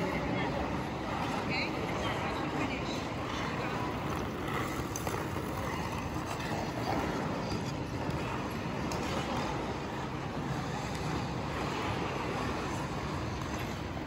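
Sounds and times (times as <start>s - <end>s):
ice rink rumbling hiss: 0.0s - 14.0s.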